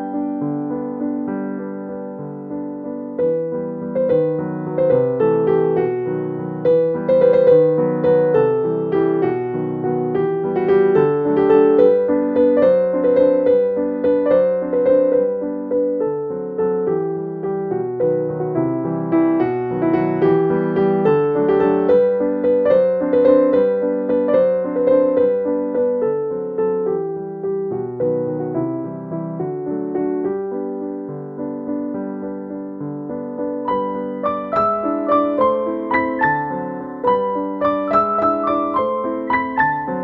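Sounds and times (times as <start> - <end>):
gentle piano music: 0.0 - 40.0.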